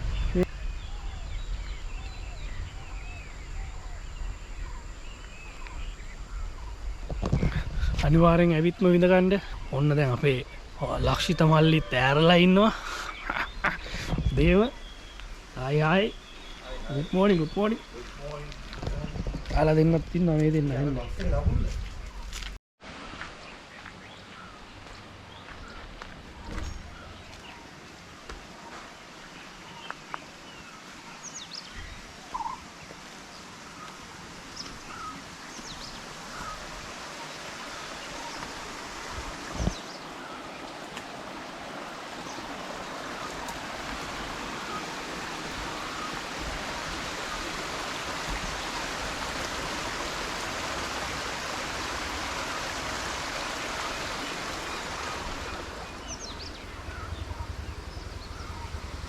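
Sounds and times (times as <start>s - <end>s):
stream water rushing: 8.0s - 18.9s, 22.3s - 59.0s.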